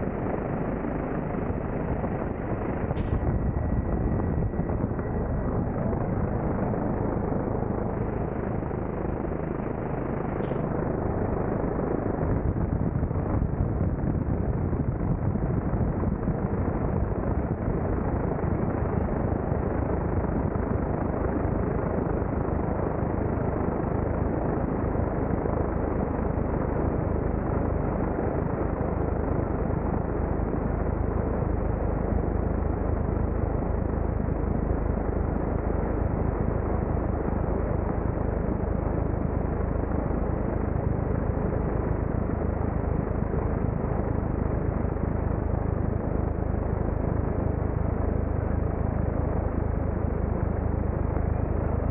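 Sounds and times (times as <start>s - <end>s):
helicopter rotors and engine: 0.0s - 51.9s
wind on microphone: 0.0s - 51.9s.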